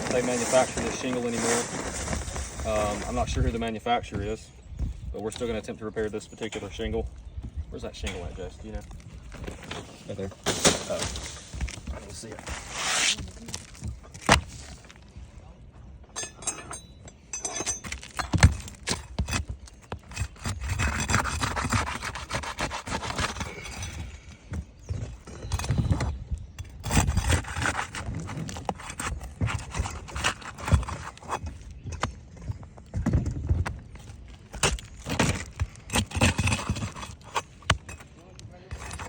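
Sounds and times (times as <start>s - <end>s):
scraping and rubbing on shingles: 0.0s - 4.5s, 7.8s - 15.2s, 17.7s - 39.0s.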